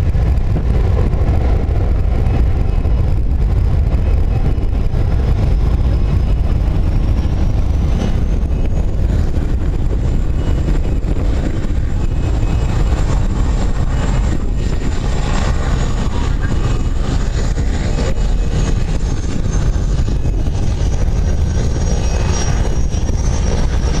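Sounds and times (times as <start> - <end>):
high engine whine: 0.0 - 24.0
jet engine rumble: 0.0 - 24.0.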